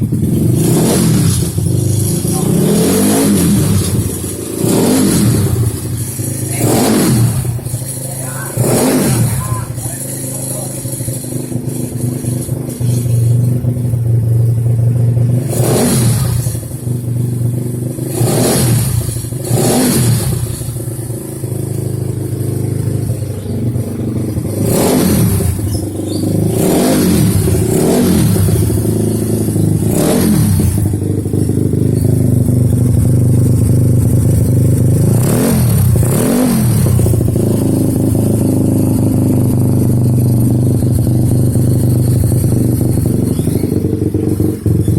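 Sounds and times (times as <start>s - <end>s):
scooter engine revving: 0.0s - 44.9s.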